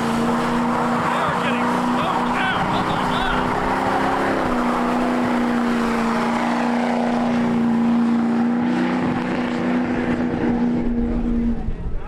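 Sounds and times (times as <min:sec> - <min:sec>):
engine running at high pitch: 0:00.0 - 0:12.0.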